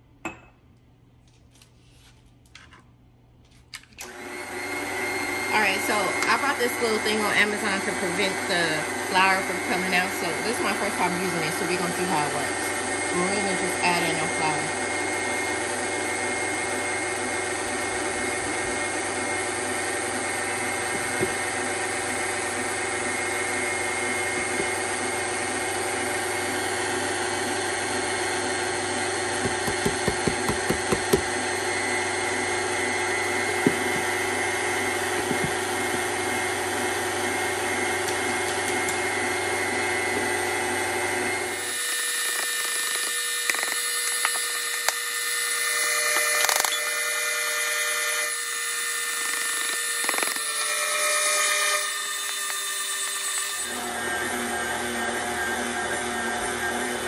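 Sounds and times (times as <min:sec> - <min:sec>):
stand mixer motor running: 0:04.0 - 0:57.0.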